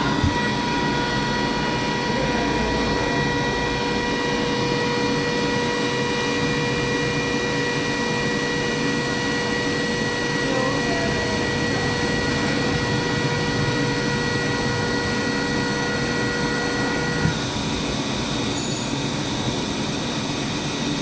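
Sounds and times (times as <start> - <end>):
air compressor hum: 0.0 - 21.0
high whine: 0.0 - 21.0.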